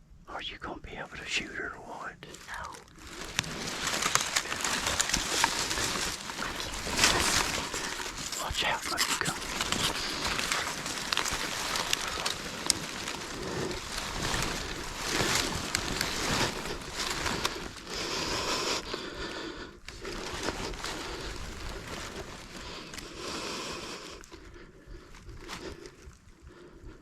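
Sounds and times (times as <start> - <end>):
footsteps through dry leaves: 2.3 - 24.4
twigs snapping: 2.3 - 26.2.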